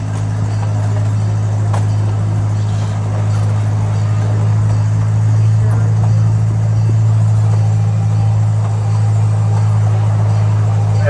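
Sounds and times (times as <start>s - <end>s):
train running heard on board: 0.0s - 11.0s.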